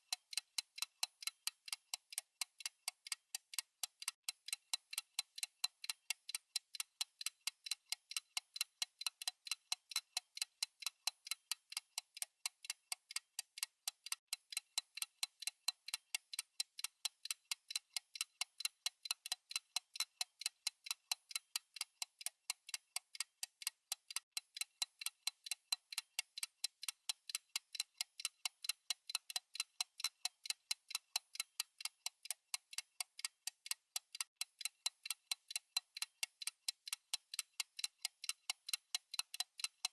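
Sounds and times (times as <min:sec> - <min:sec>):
timer clock ticking: 0:00.0 - 0:39.9.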